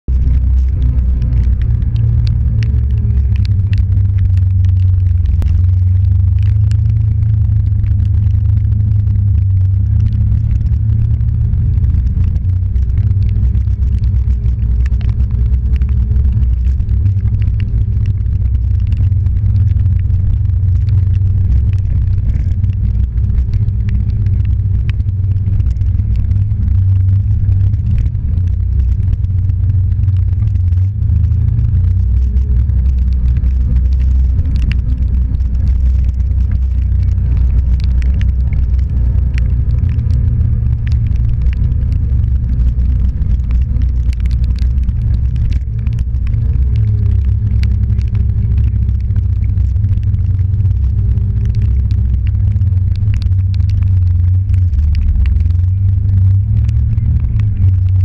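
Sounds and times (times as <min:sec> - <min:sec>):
vehicle engine droning: 0:00.0 - 0:58.0
small ticks: 0:00.1 - 0:58.0.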